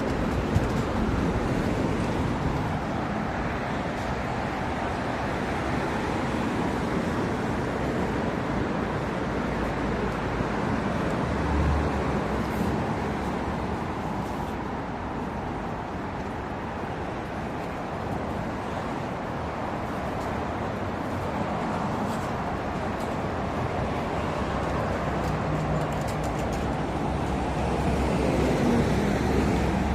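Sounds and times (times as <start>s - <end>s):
city traffic noise: 0.0s - 29.9s.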